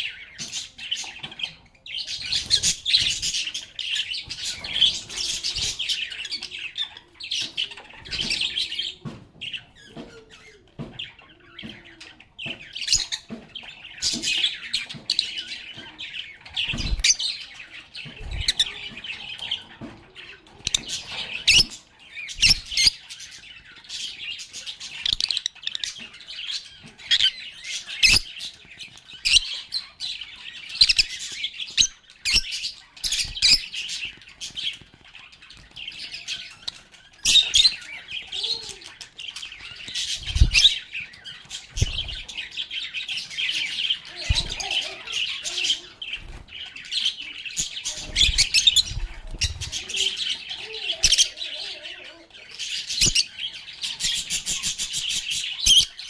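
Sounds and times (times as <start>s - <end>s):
lovebirds chirping and chattering: 0.0s - 56.0s.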